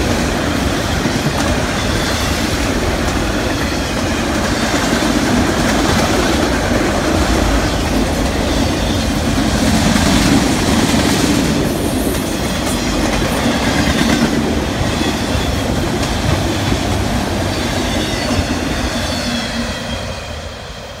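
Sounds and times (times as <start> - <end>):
freight train wheels rolling on rails: 0.0 - 21.0.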